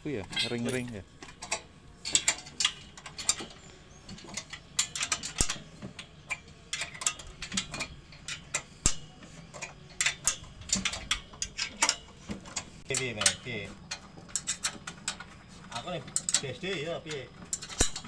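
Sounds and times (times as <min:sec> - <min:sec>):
spanner clicking on metal frame: 0:00.2 - 0:18.0.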